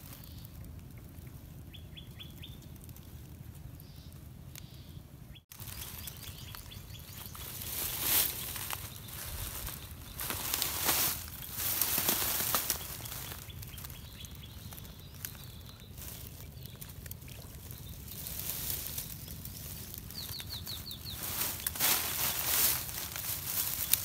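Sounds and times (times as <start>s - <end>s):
bird chirping: 0.2s - 2.8s, 3.8s - 24.0s.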